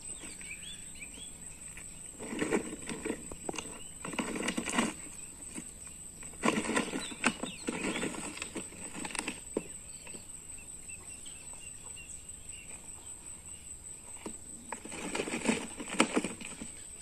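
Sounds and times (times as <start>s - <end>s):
gravel crunching under plastic wheels: 0.0s - 17.0s
high insect whine: 0.0s - 17.0s.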